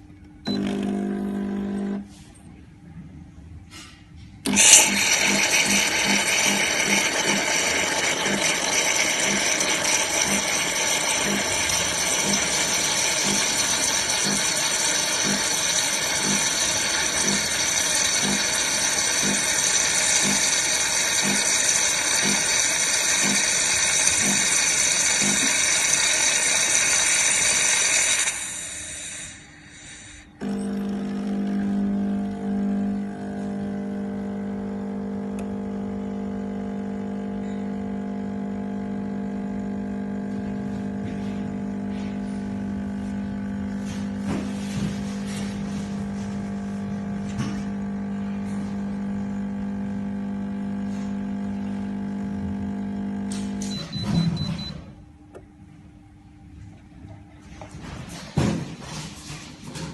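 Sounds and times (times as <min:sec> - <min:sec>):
coffee machine whirring: 0:00.0 - 0:02.2, 0:04.4 - 0:59.9
coffee machine beep: 0:00.4 - 0:02.0, 0:04.5 - 0:40.7, 0:41.5 - 0:55.5.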